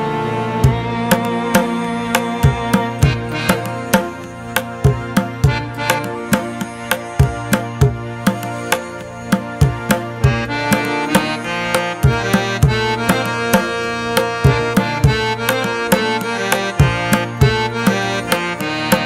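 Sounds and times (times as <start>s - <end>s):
sustained chords: 0.0s - 19.0s
hand drum rhythm: 0.6s - 19.0s.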